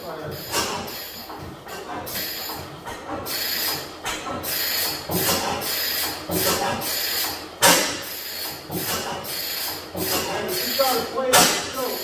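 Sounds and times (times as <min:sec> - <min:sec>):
engine mechanical clatter: 0:00.0 - 0:12.0
stationary engine exhaust beats: 0:00.0 - 0:12.0.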